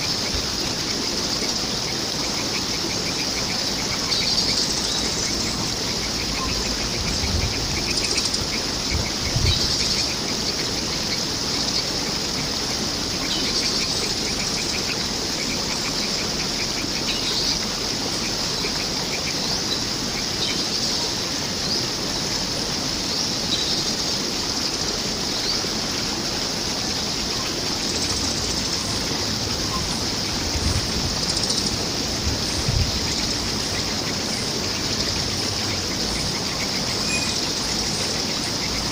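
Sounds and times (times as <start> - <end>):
birds chirping: 0.0 - 38.9
flowing water rushing: 0.0 - 38.9.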